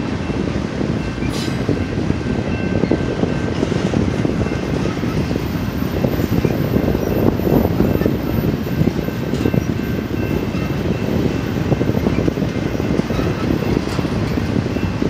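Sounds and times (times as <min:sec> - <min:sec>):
rapid train clatter: 0:00.0 - 0:15.0
train wheels rumbling on rail: 0:00.0 - 0:15.0.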